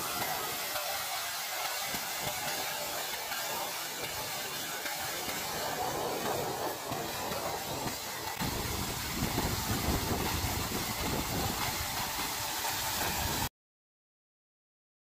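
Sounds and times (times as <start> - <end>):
aerator splashing water: 0.0 - 13.5.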